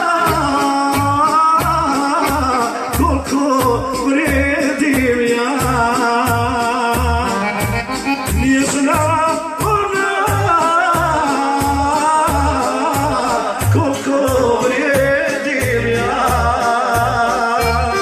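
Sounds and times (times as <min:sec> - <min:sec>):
live folk song with band: 0:00.0 - 0:18.0
person singing: 0:00.0 - 0:18.0.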